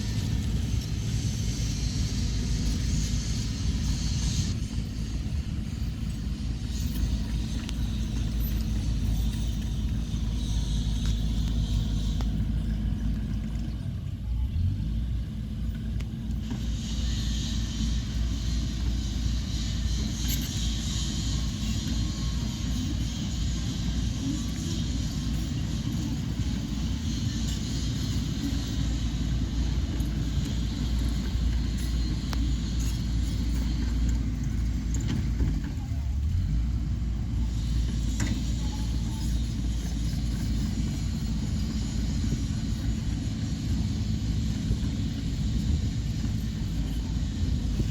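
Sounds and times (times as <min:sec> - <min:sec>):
diesel engine low rumble: 0:00.0 - 0:47.9.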